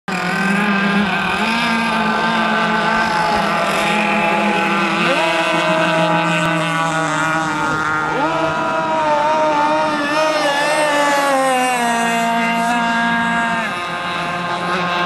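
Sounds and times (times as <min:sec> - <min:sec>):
model speedboat motors droning: 0:00.1 - 0:15.0.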